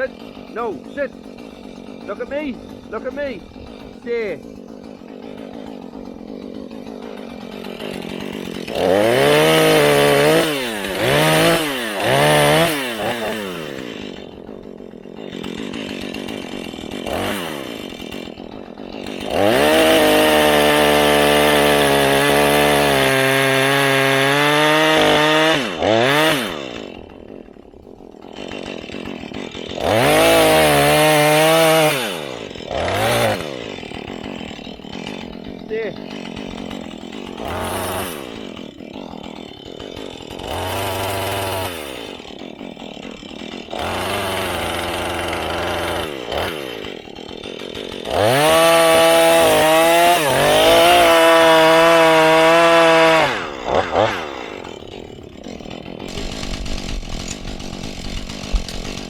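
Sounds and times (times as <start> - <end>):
chainsaw revving and cutting: 0.0 - 59.0.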